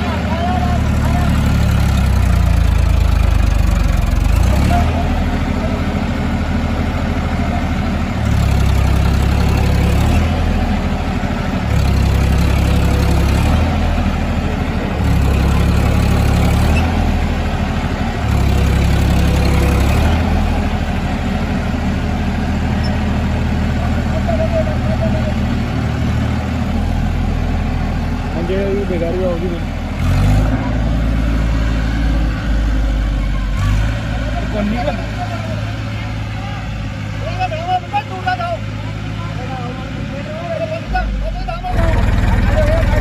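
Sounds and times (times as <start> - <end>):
tractor diesel engine labouring: 0.0 - 43.0.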